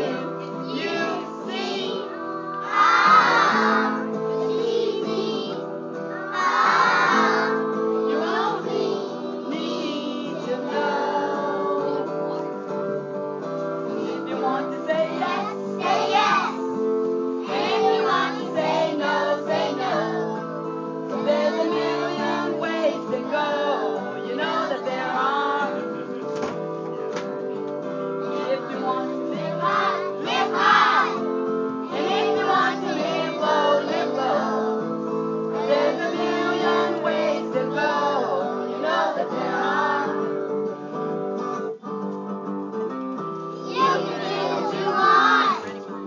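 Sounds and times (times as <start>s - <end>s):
children singing: 0.0s - 12.6s, 13.9s - 26.0s, 28.2s - 40.7s, 43.6s - 45.8s
instrumental accompaniment: 0.0s - 46.0s.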